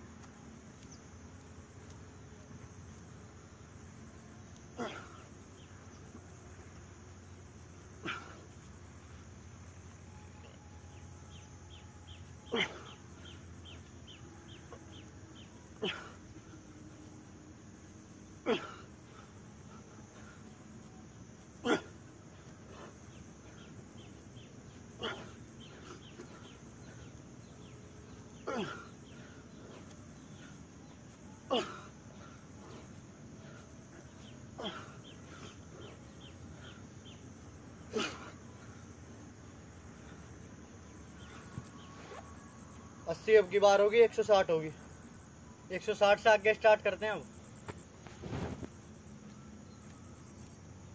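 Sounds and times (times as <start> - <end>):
insects chirring: 0.0 - 50.9
small chirps: 0.1 - 43.0, 47.0 - 50.9.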